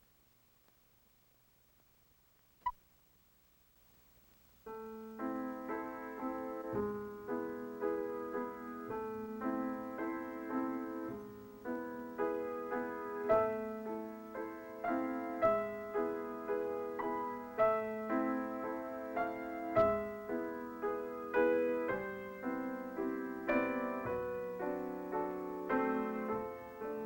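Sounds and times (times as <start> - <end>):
slow gentle piano melody: 4.7 - 27.0.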